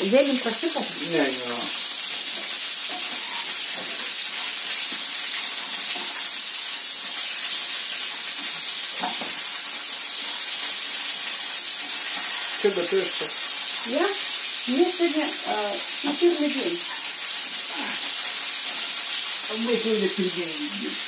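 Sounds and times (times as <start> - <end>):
dumplings sizzling in oil: 0.0 - 21.0.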